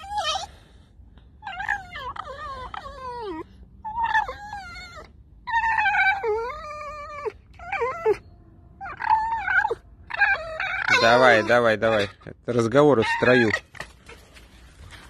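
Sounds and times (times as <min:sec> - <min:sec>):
fox squeaky whining calls: 0:00.0 - 0:00.6, 0:01.4 - 0:13.9.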